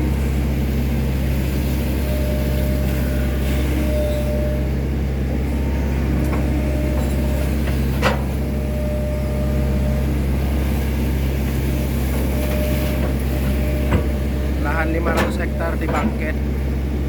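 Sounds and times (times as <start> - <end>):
excavator diesel engine humming: 0.0 - 17.0.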